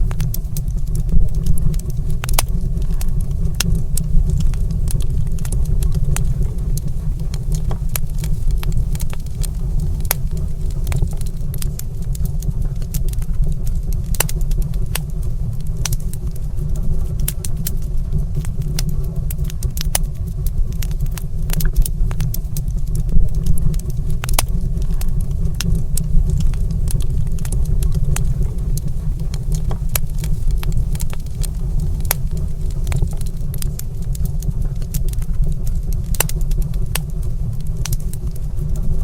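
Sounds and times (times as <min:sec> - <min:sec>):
fireplace fire crackling: 0:00.0 - 0:39.0.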